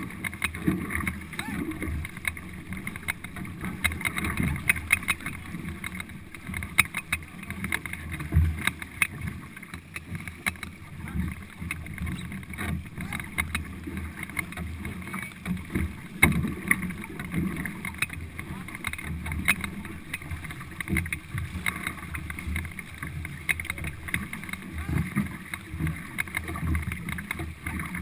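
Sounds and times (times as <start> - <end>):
low rumble of water: 0.0 - 28.0
paddle strokes splashing water: 0.0 - 28.0
sharp clicks and knocks: 0.0 - 28.0.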